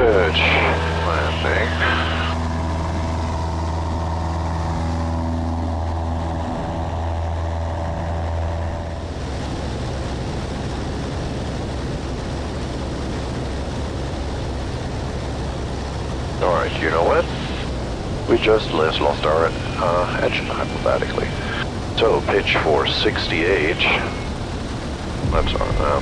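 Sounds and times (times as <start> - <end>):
aircraft engine drone: 0.0 - 26.0
engine and air rush: 0.0 - 26.0.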